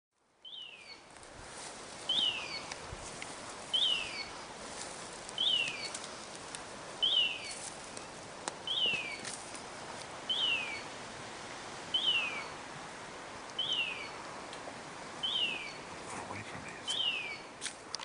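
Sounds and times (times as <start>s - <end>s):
outdoor background noise: 0.1s - 18.0s.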